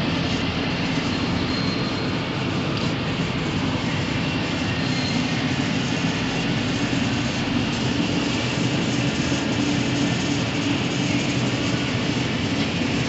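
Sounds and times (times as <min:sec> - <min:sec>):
bandsaw running: 0:00.0 - 0:13.0.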